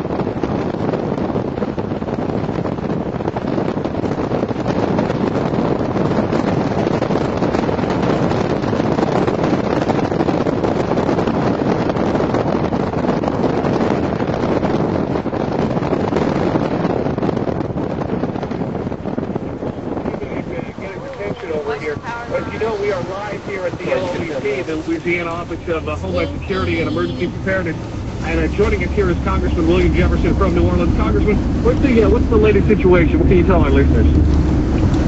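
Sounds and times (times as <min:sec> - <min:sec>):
road noise: 0:00.0 - 0:35.0
wind rushing over microphone: 0:00.0 - 0:35.0.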